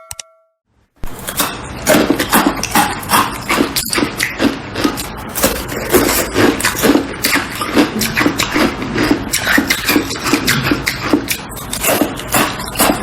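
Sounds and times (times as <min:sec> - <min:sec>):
ice crunching while chewed: 0:01.1 - 0:13.0.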